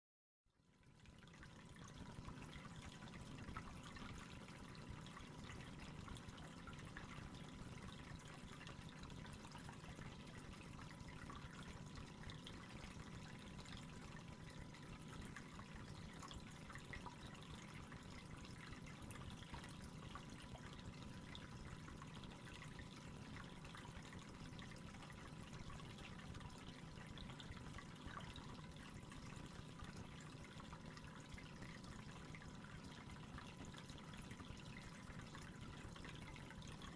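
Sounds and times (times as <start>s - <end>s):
aquarium water trickling: 0.5s - 36.9s.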